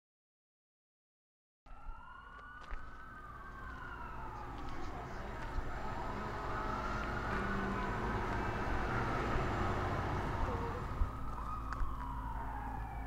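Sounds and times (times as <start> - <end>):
emergency siren wailing: 1.7 - 13.0.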